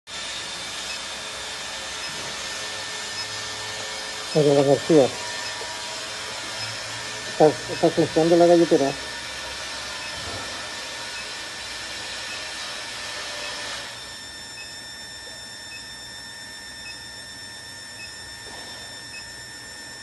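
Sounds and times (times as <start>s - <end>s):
furnace whirring hiss: 0.1s - 20.0s
thin high whines: 0.1s - 20.0s
faint regular blips: 0.7s - 19.9s.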